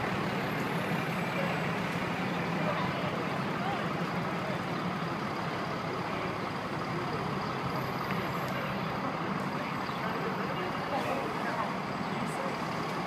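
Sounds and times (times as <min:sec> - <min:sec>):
diesel truck engines rumbling: 0:00.0 - 0:13.0
street noise: 0:00.0 - 0:13.0.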